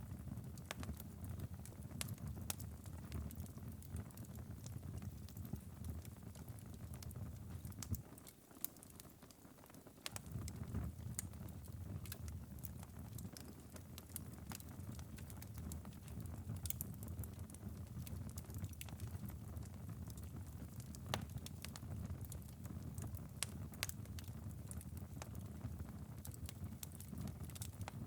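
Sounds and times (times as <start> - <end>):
low fire rumble: 0.0 - 8.0, 10.0 - 28.0
fire embers crackling and popping: 0.0 - 28.0.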